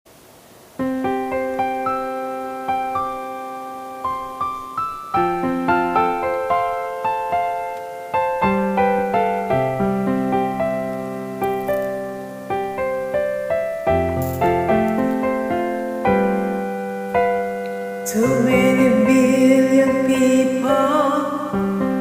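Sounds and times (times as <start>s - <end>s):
slow piano notes and chords: 0.8s - 22.0s.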